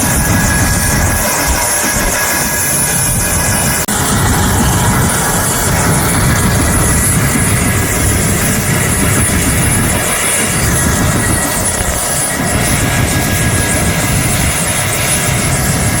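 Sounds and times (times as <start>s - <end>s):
helicopter engine and rotor: 0.0s - 16.0s
high whine: 0.0s - 16.0s.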